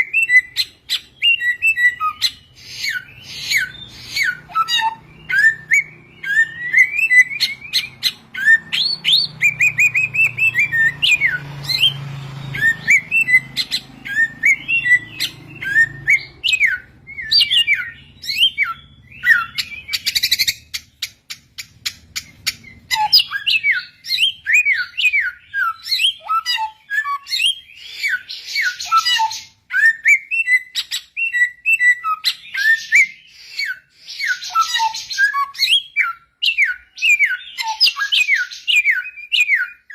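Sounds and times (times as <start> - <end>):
songbird singing chirps and whistles: 0.0 - 39.9.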